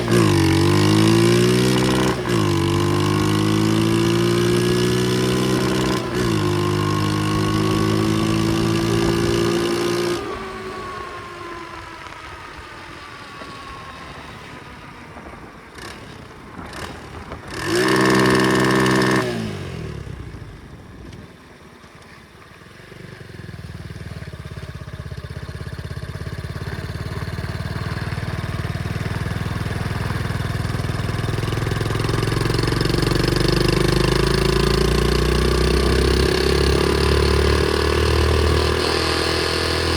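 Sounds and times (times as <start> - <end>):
pit bike engine revving: 0.0 - 12.1, 15.7 - 20.4, 23.5 - 39.9.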